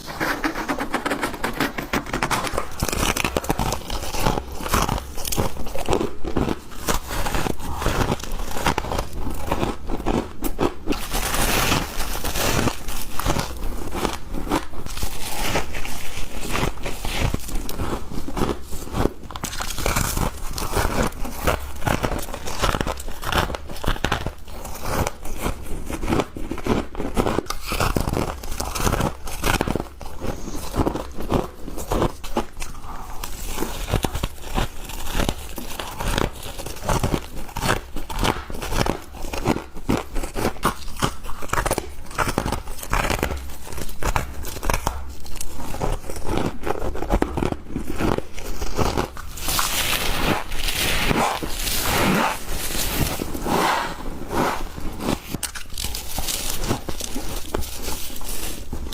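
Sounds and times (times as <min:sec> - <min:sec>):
frost being chewed crunching: 0:00.1 - 0:58.9.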